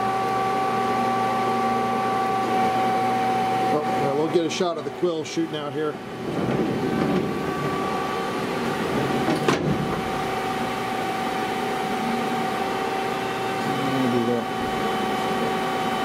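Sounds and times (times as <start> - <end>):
lathe machine hum: 0.0 - 16.0.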